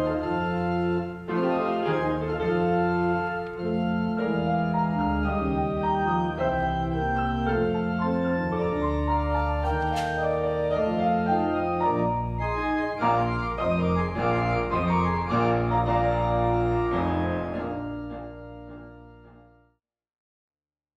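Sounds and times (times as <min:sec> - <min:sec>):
organ playing chords: 0:00.0 - 0:19.6.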